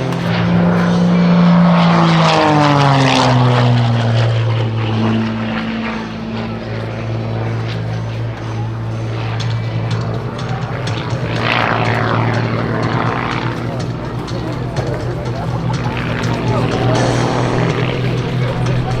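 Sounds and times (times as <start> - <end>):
plane engine and propeller drone: 0.0 - 19.0.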